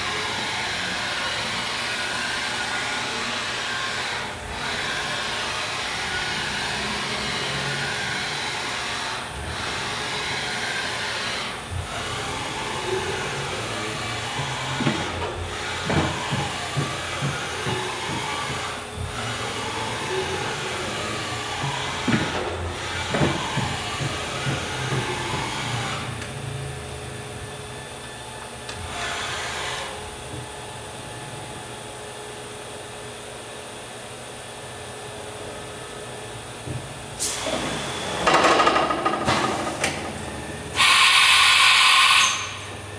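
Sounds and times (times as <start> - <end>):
machining centre whirring: 0.0 - 42.9.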